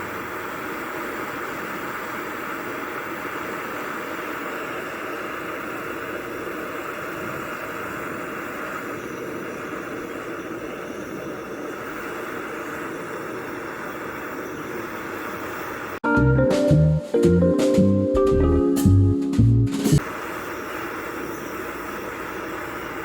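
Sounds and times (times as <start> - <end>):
gas torch flame hissing: 0.0 - 16.0, 20.0 - 23.0.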